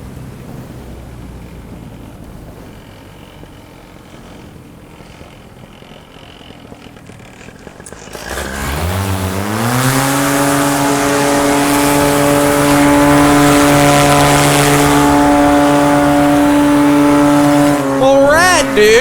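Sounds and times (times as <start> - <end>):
paramotor engine and propeller: 0.0 - 19.0.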